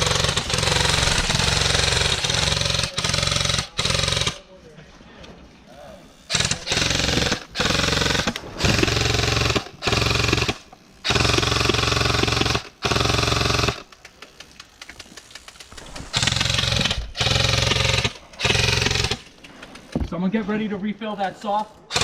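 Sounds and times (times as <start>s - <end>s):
airsoft rifle firing bursts: 0.0s - 4.4s, 6.3s - 19.6s, 21.5s - 22.0s.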